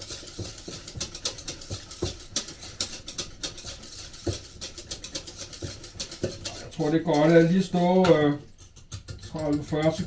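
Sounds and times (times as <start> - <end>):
utensil scraping metal pot: 0.0 - 10.0.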